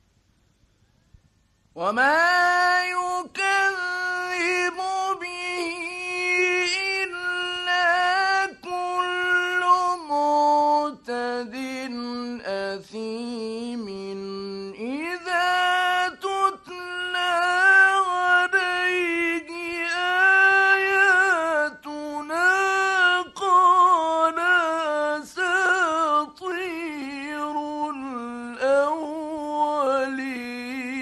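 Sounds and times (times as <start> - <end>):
man chanting melodically: 1.8 - 31.0.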